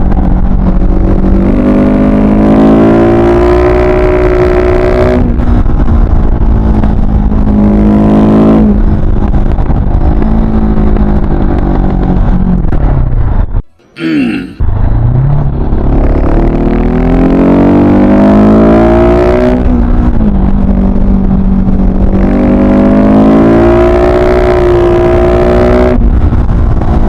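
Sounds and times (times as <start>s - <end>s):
motorcycle engine revving: 0.0s - 13.5s, 14.6s - 27.0s.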